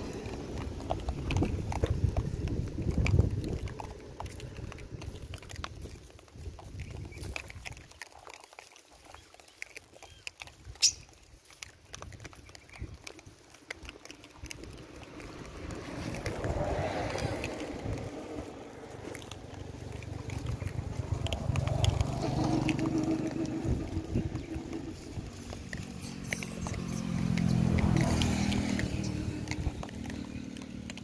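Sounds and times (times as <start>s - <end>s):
vehicles passing on road: 0.0s - 31.0s.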